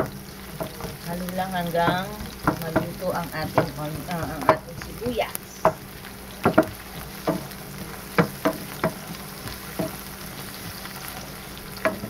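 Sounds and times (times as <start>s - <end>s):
wooden spatula knocking pan: 0.0s - 10.8s, 11.8s - 12.0s
onions sizzling in oil: 0.0s - 12.0s.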